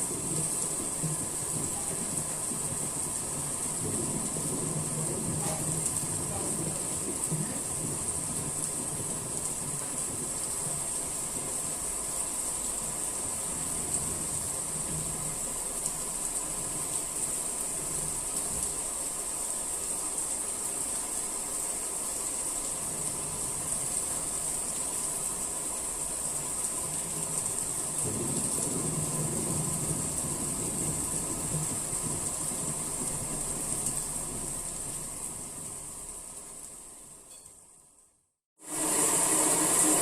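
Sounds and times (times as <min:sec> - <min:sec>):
rain hiss: 0:00.0 - 0:38.0, 0:38.6 - 0:40.0.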